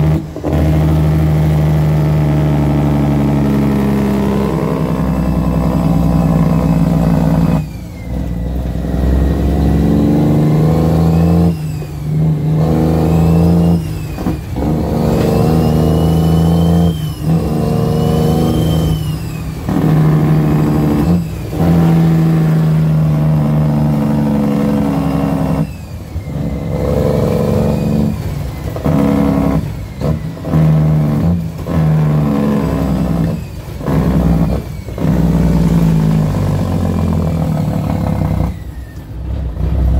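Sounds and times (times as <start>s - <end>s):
diesel truck engine pulling: 0.0s - 39.9s
high engine whistle: 0.0s - 39.9s.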